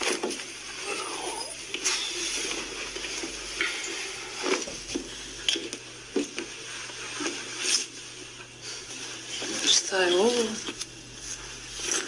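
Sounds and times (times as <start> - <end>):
rustling: 1.6 - 12.0.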